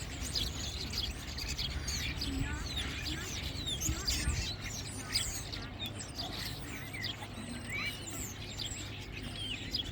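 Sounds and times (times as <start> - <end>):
songbirds chirping: 0.0 - 9.9.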